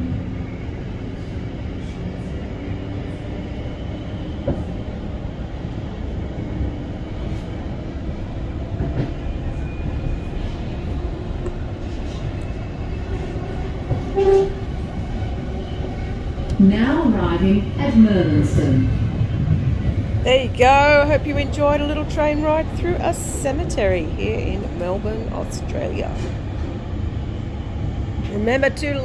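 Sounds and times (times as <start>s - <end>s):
train rumbling inside carriage: 0.0s - 29.0s.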